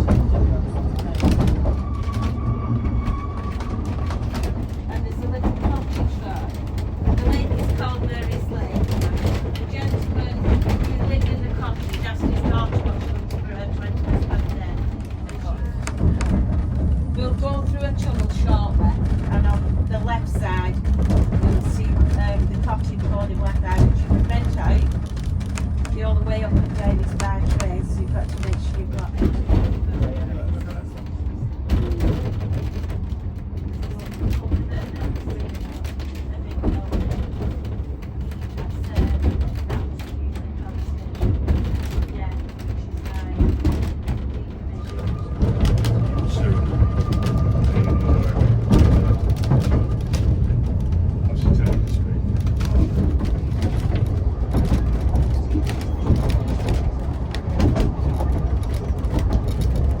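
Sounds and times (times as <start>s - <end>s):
railway carriage rumbling: 0.0s - 60.0s.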